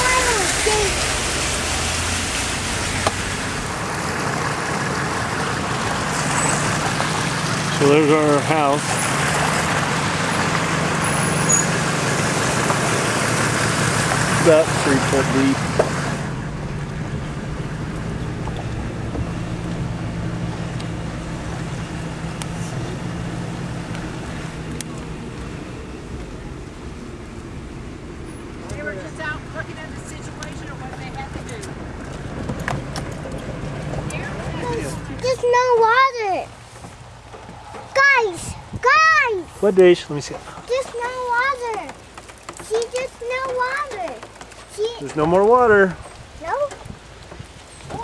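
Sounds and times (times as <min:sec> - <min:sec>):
engine humming: 0:00.0 - 0:48.0
floodwater rushing: 0:00.0 - 0:48.0.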